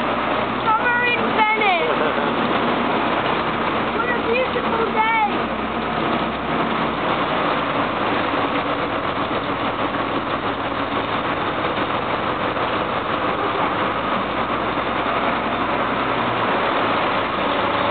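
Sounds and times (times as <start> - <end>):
boat engine humming: 0.0 - 17.9
churning wake water: 0.0 - 17.9
heavy rain hissing: 0.0 - 17.9.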